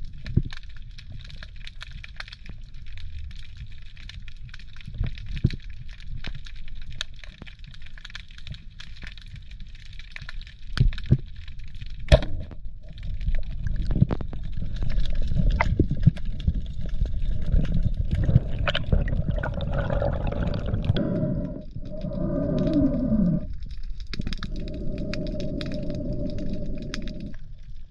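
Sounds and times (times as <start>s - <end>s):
low rumbling water noise: 0.0s - 27.9s.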